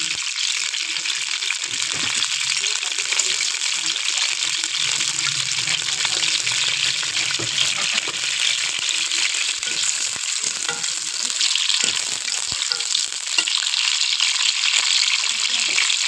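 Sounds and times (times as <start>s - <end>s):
potato slices sizzling in oil: 0.0s - 16.0s.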